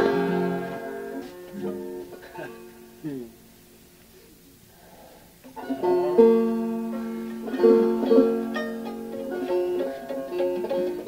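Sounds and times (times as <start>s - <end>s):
banjo picked slowly: 0.0s - 3.5s, 5.4s - 11.0s.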